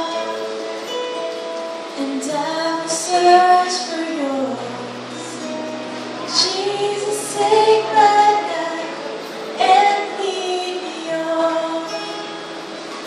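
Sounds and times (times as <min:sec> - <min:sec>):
woman singing into microphone: 0:00.0 - 0:00.6, 0:01.9 - 0:12.4
acoustic guitar: 0:00.0 - 0:13.0.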